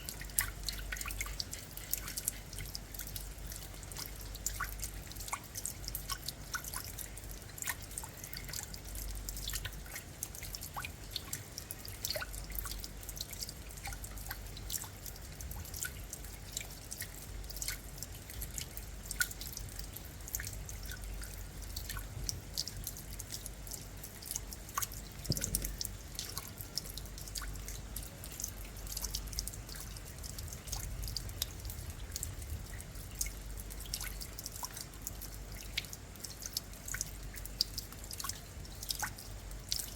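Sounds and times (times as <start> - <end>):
raindrops dripping: 0.0 - 39.9.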